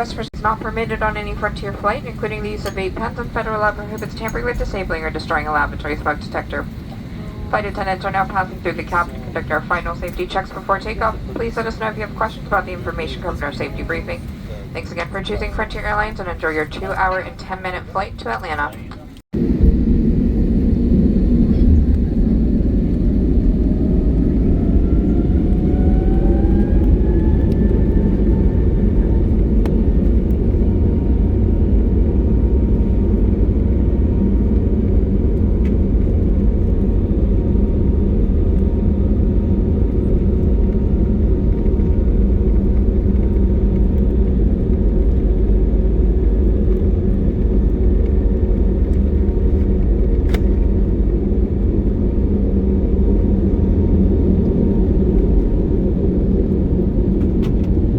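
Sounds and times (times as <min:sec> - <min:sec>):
engine whine: 0:00.0 - 0:57.9
jet engine rumble in cabin: 0:00.0 - 0:57.9.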